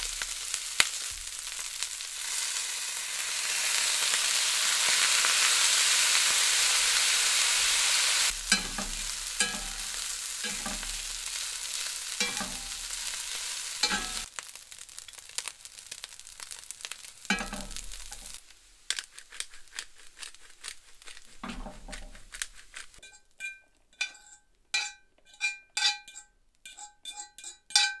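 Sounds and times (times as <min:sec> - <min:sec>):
fork scraping and clinking on skillet: 0:00.0 - 0:14.4, 0:16.4 - 0:28.0
rice sizzling in a skillet: 0:00.0 - 0:23.2.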